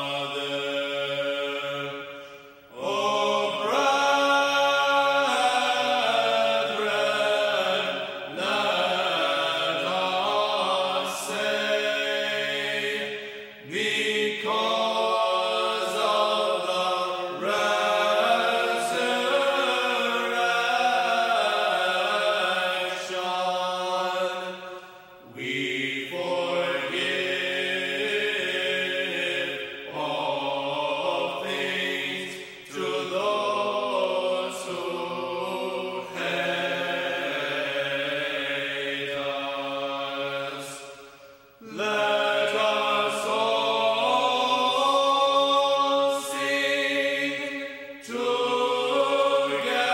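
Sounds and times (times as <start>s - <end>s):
voices singing a chant: 0.0s - 49.9s.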